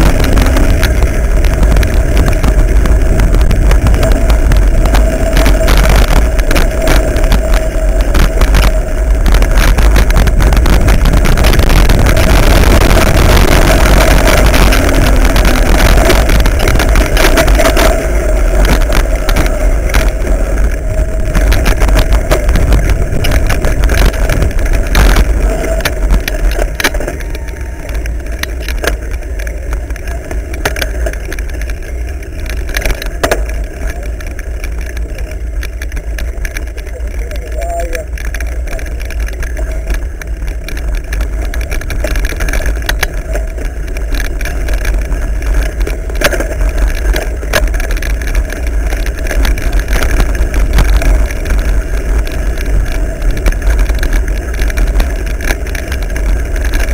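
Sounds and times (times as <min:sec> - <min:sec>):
bike knocking and rattling: 0:00.0 - 0:56.9
wind buffeting microphone: 0:00.0 - 0:56.9.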